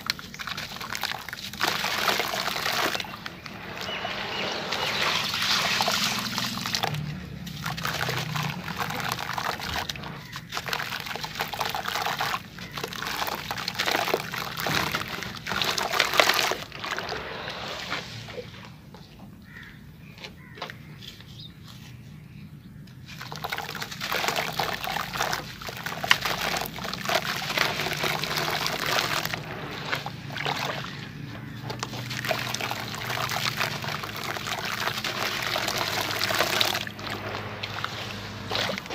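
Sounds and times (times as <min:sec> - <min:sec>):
hands sloshing wet sand in water: 0:00.0 - 0:18.6, 0:23.1 - 0:38.9
water splashing and trickling: 0:00.0 - 0:19.7, 0:22.9 - 0:38.9.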